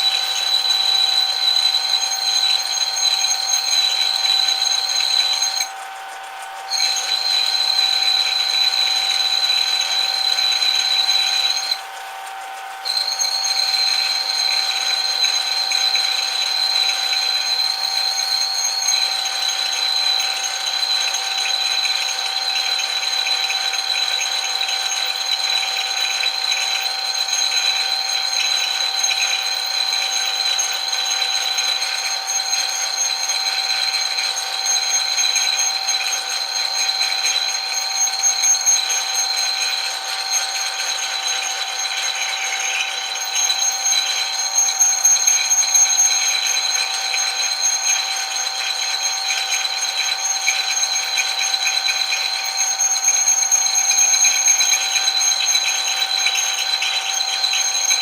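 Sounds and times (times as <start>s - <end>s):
metal lathe whining: 0.0s - 58.0s.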